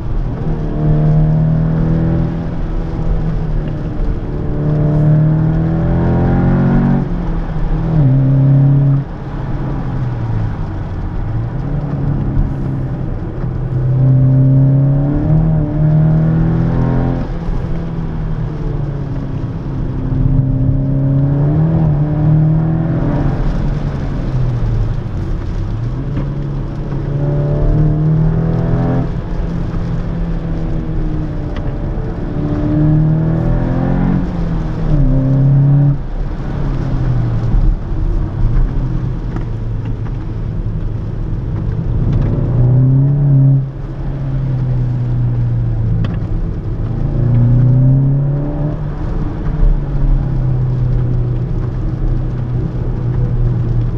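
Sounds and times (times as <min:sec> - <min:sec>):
car engine accelerating: 0:00.0 - 0:53.9
road noise: 0:00.0 - 0:53.9.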